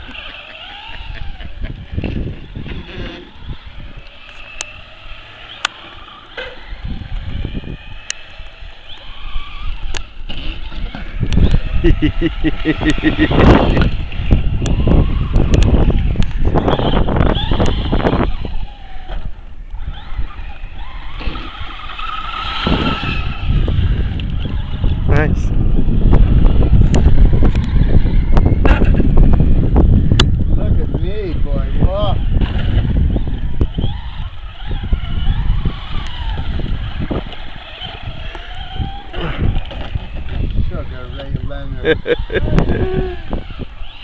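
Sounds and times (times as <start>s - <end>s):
electric rc car motors whining: 0.0s - 44.0s.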